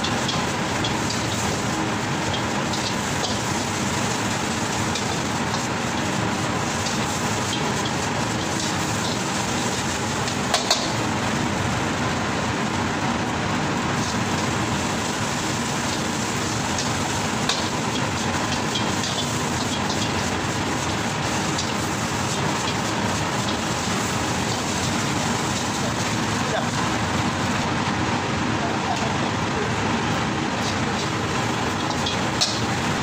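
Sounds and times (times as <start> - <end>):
gas wok burner rushing: 0.0 - 33.0.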